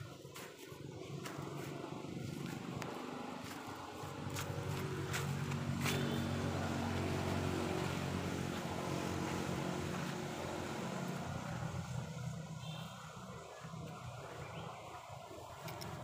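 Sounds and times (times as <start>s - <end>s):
motor engine humming: 0.0s - 13.2s.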